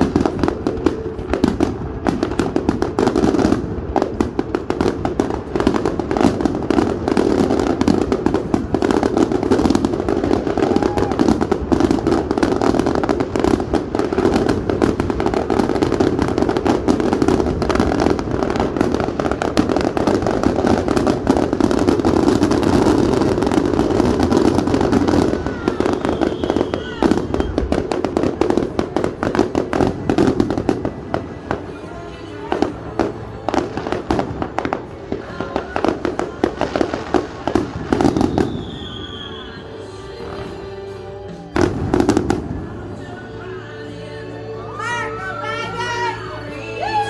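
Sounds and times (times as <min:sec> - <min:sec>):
fireworks popping and crackling: 0:00.0 - 0:45.0.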